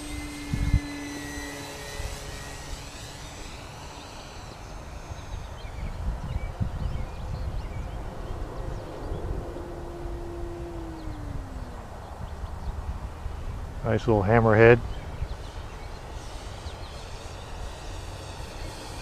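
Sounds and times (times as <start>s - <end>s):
model airplane motor whining: 0.0s - 19.0s
wind noise on microphone: 0.0s - 19.0s.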